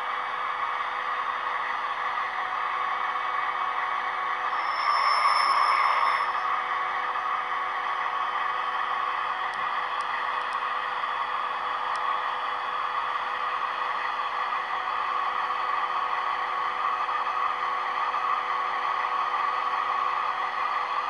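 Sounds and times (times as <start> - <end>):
diesel locomotive engine through small speaker: 0.0 - 21.0.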